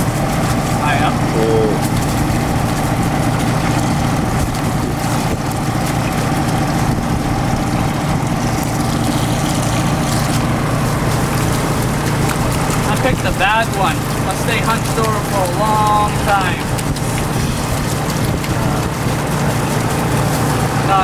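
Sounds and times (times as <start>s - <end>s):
engine droning steadily: 0.0s - 21.0s
hose water splashing: 0.0s - 21.0s.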